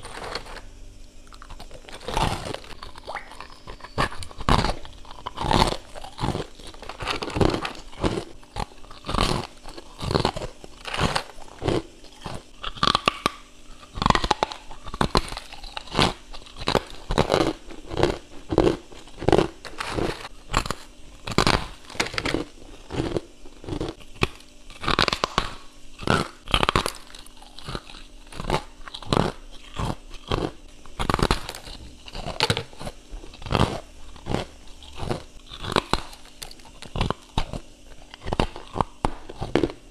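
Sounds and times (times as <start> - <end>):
frost being chewed: 0.0 - 39.9.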